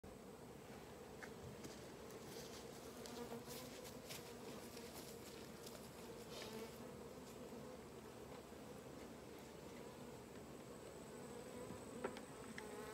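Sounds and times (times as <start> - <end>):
bee swarm buzzing: 0.1 - 12.9.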